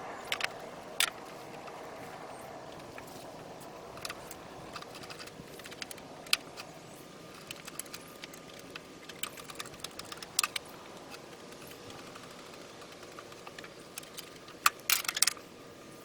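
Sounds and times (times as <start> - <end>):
hand tools clicking and clinking: 0.2 - 15.5.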